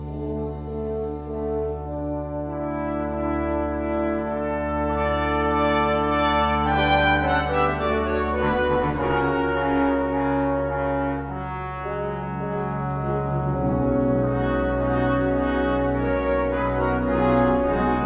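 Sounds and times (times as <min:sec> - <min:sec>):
slow sacred brass-like music: 0:00.0 - 0:18.0.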